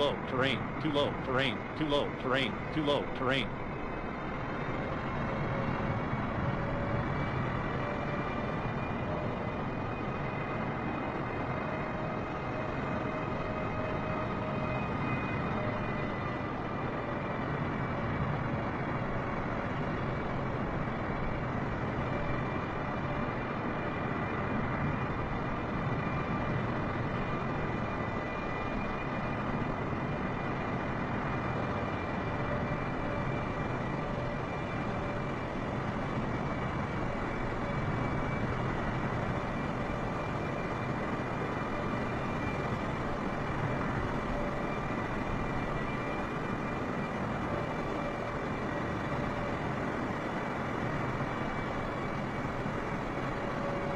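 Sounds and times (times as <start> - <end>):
faint whining tones: 0.0 - 53.9.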